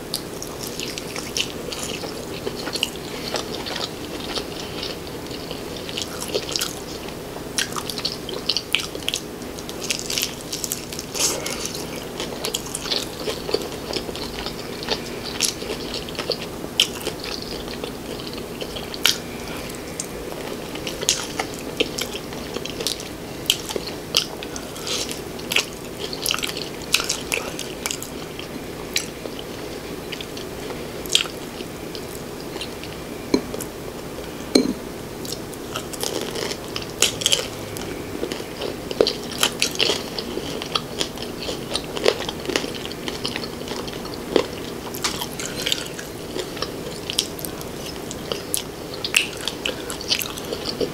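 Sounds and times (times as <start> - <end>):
chewing and mouth sounds: 0.1 - 33.7, 34.3 - 50.9
crispy chicken crunching: 0.2 - 33.7, 35.3 - 50.9.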